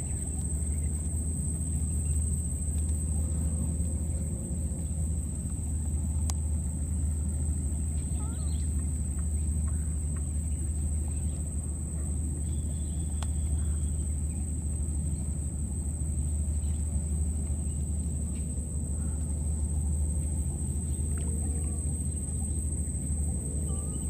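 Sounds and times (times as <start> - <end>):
high-pitched whine: 0.0 - 24.0
low rumble: 0.0 - 24.0.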